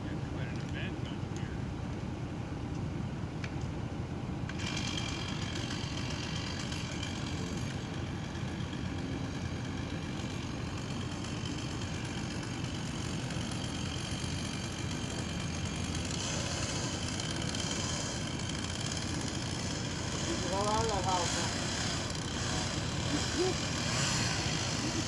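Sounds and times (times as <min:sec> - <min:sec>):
engine running: 0:03.5 - 0:25.0.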